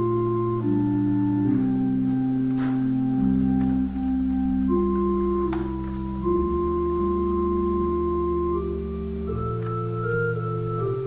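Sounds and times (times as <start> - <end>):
church organ chords: 0.0 - 11.0.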